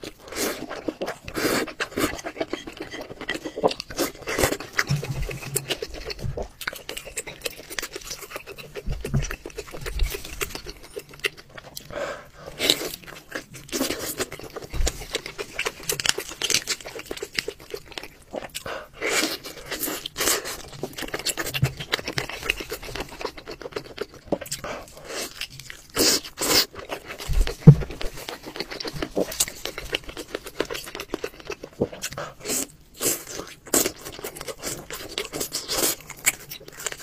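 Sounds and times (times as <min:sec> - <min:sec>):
chewing with wet mouth smacks: 0:00.0 - 0:37.0.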